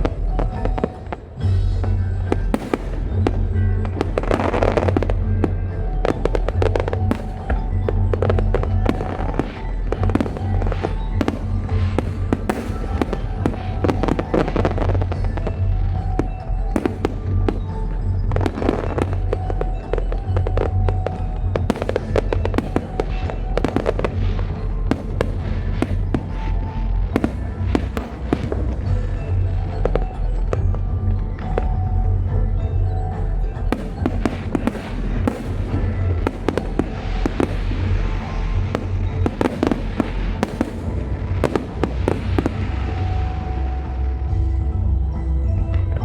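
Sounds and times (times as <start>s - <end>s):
fireworks bangs and crackles: 0.0s - 44.4s
music playing: 0.0s - 46.0s.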